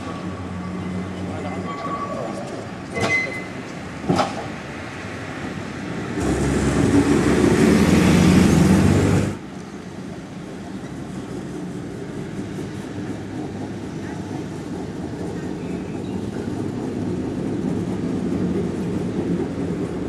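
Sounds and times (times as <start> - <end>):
tram rushing past: 0.0 - 20.0.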